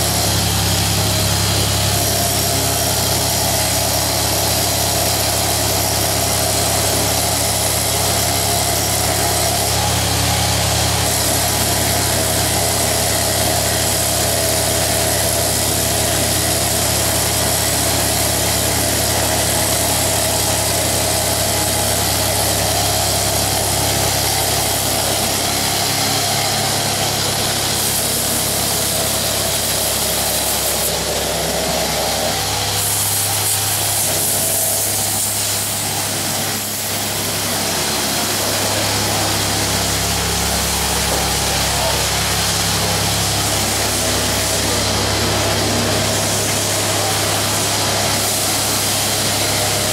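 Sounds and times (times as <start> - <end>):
power tools hissing and humming: 0.0 - 49.9.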